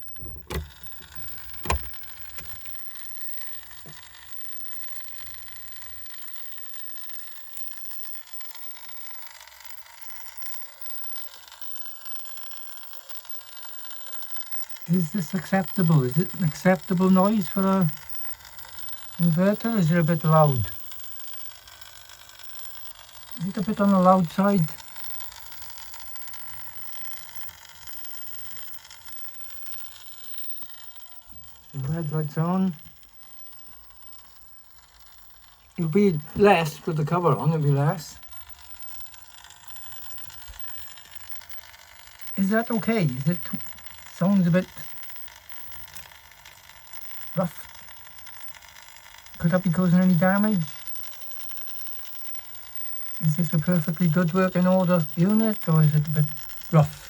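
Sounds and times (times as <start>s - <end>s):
power inverter buzzing: 0.0s - 57.0s.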